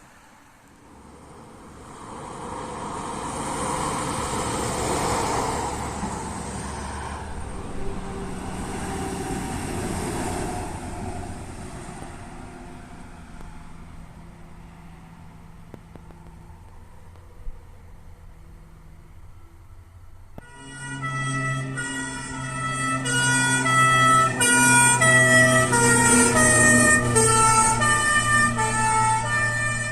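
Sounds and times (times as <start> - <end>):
vehicle driving past: 0.8 - 29.9.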